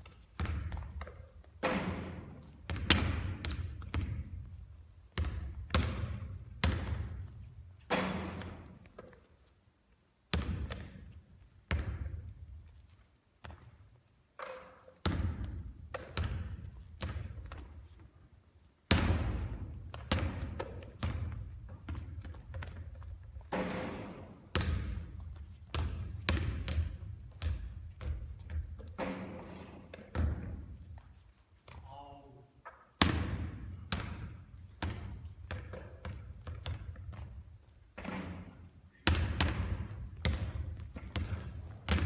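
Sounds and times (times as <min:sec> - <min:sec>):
basketball bouncing on court: 0:00.0 - 0:09.1, 0:10.3 - 0:12.7, 0:13.4 - 0:17.9, 0:18.9 - 0:31.0, 0:32.7 - 0:42.0.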